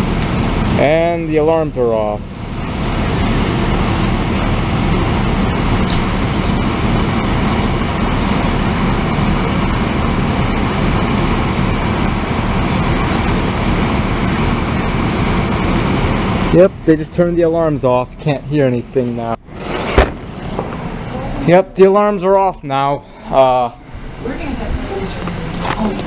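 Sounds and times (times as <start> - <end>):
loud steady roar with low hum: 0.0 - 26.0.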